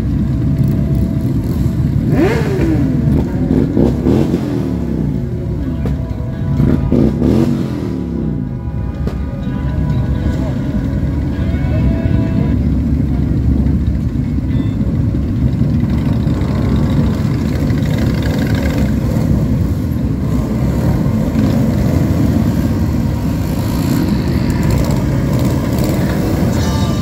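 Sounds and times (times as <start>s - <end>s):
motorcycle engines rumbling: 0.0s - 27.0s.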